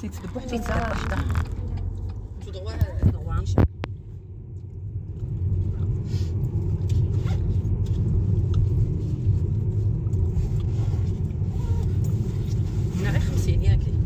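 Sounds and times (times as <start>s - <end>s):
car cabin engine and road rumble: 0.0s - 14.0s.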